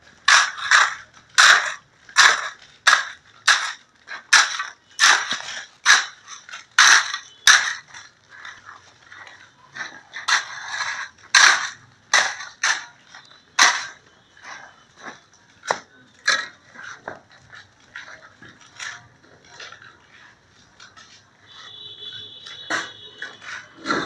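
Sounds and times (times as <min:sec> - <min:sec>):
hand tools striking concrete: 0:00.1 - 0:20.1, 0:22.4 - 0:24.0.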